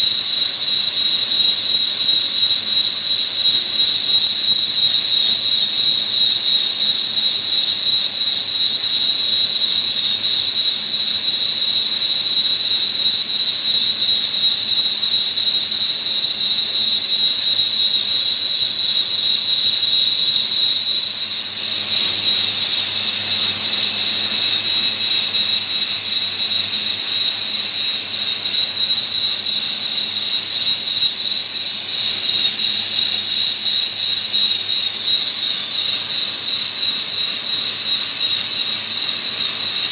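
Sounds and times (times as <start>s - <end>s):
cutting tool squealing: 0.0s - 39.9s.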